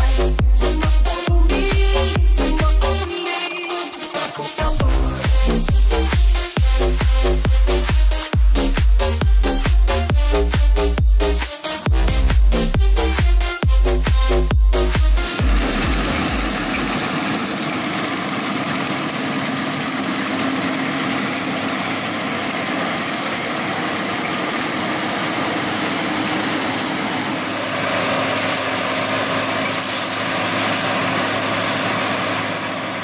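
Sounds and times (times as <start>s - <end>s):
combine harvester engine drone: 4.8s - 33.0s.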